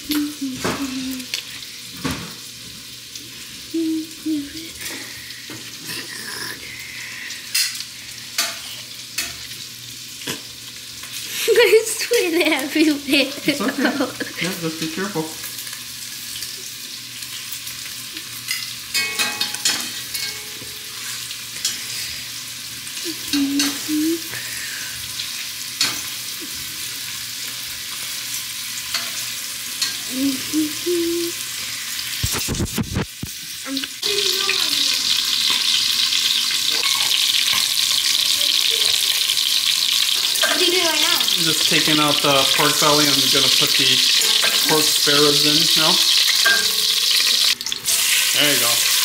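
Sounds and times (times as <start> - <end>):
pork frying with a sizzle: 0.0 - 49.0.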